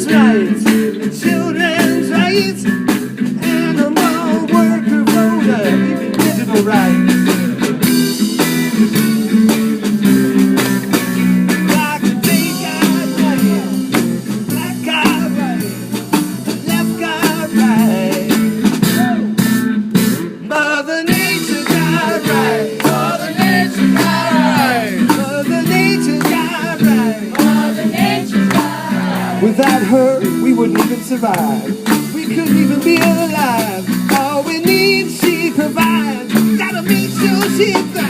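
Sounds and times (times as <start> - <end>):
person singing: 0.0 - 2.6, 3.4 - 7.2, 11.7 - 15.7, 16.7 - 19.2, 20.5 - 38.0
guitar and drums playing: 0.0 - 38.0.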